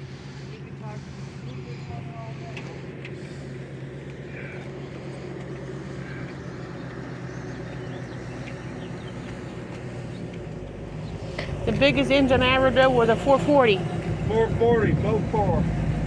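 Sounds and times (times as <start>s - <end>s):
engine idling hum: 0.0s - 16.0s
outdoor noise: 0.0s - 16.0s.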